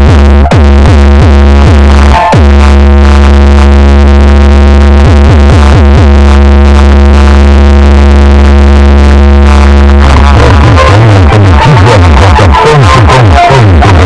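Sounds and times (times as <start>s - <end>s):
heavy bass note: 0.0s - 14.0s.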